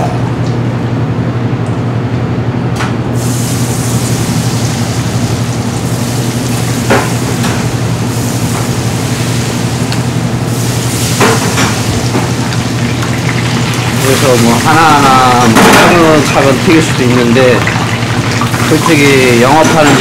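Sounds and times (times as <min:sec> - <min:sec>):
steady low hum: 0:00.0 - 0:19.4
oil sizzling and bubbling: 0:03.0 - 0:20.0.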